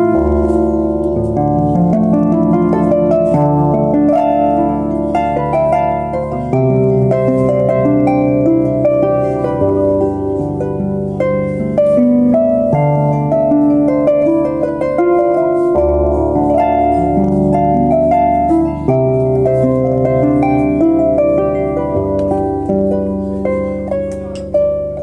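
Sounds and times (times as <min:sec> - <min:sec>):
solo harp playing: 0:00.0 - 0:25.0.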